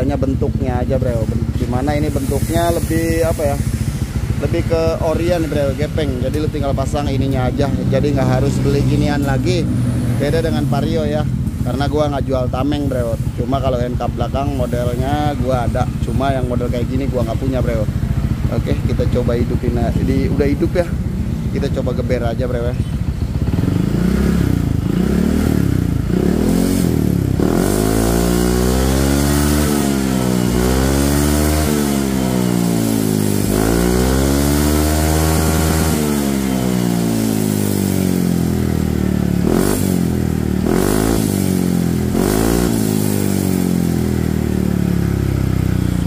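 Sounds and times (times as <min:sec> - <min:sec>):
scooter engine revving: 0:00.0 - 0:46.0.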